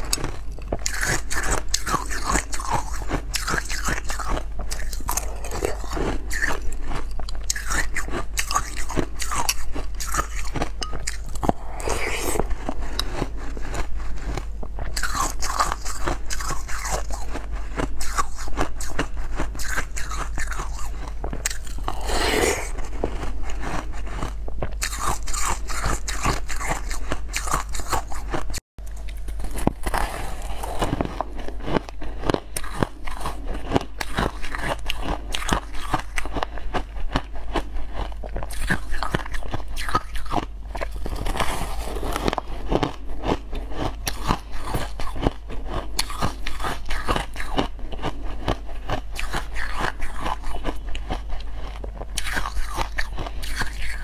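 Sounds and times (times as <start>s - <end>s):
person crunching ice: 0.0s - 28.3s, 29.0s - 54.0s.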